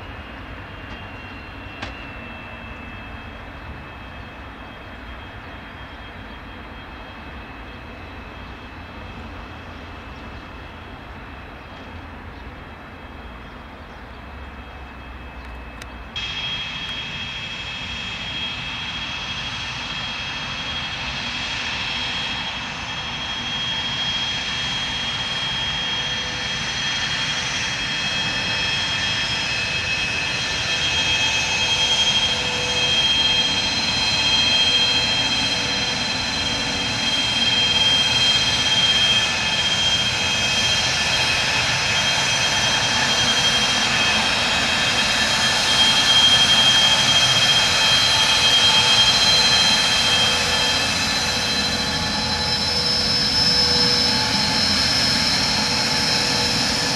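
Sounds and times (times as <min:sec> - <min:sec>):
jet engine whine: 0:00.0 - 0:56.9.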